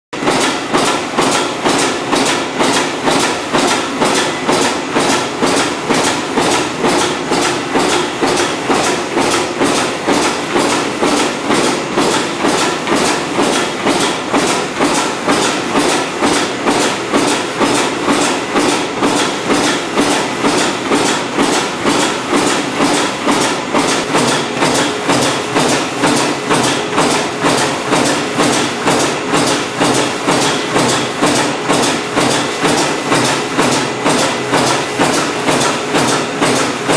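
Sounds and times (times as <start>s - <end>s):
machine rhythmic knocking: 0.2s - 36.9s.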